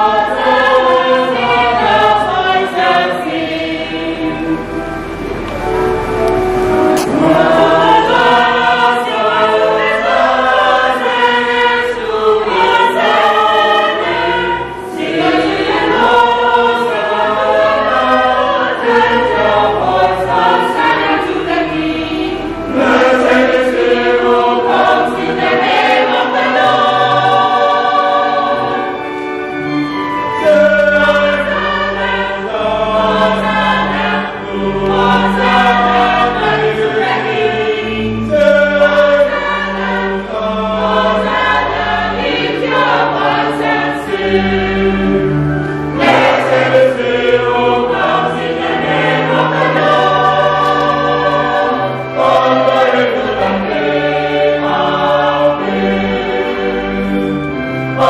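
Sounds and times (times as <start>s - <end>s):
church choir singing a hymn: 0.0s - 58.0s.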